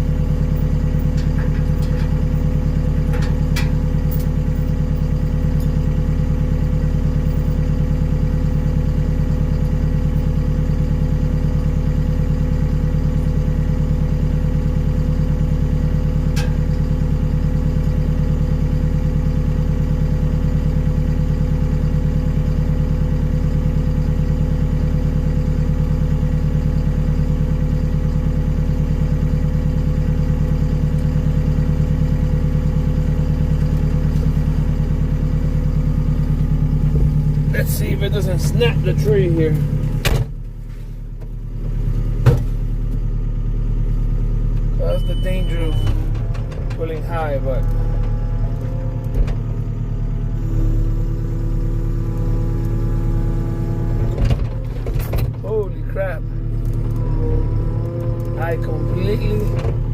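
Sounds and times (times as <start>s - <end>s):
skid steer engine running: 0.0s - 59.9s.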